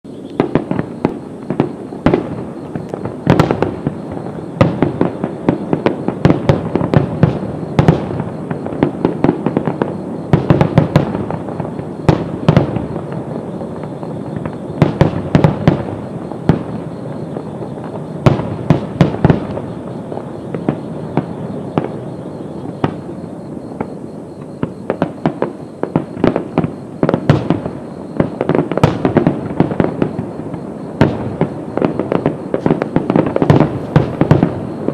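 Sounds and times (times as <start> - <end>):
fireworks bursting: 0.1 - 34.9.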